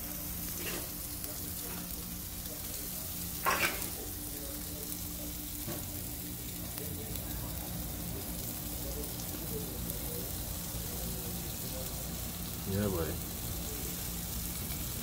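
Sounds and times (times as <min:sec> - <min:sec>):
steaks sizzling on a grill: 0:00.0 - 0:15.0.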